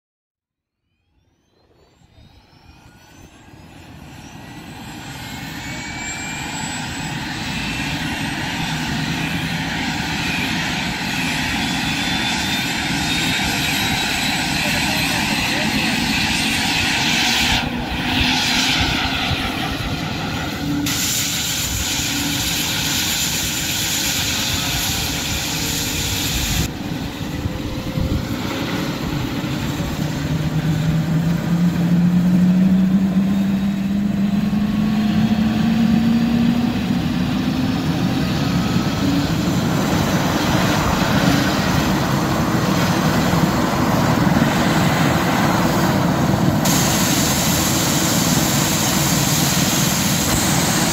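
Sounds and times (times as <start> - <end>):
helicopter turbine and rotor: 1.0 - 50.9.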